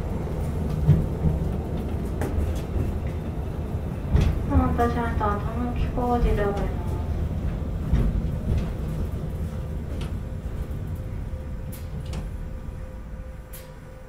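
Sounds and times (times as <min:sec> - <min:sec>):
streetcar wheels rumbling on rail: 0:00.0 - 0:14.0.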